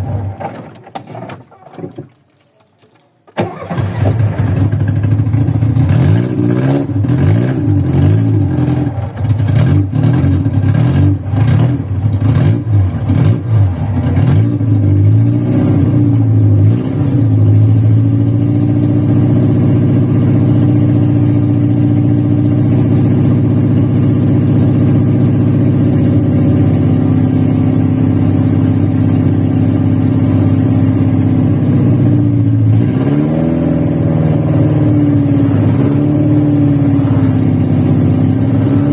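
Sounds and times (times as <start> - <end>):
rough idling car engine: 3.4 - 38.9.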